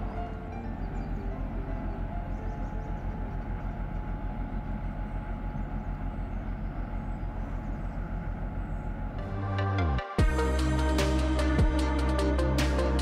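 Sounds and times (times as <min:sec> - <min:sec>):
ship diesel engine pulsing: 0:00.0 - 0:13.0.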